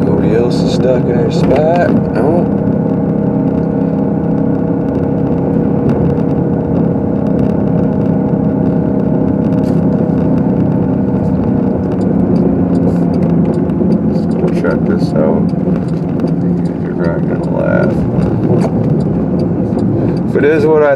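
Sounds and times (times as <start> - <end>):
car engine hum: 0.0 - 20.9
road noise: 0.0 - 20.9.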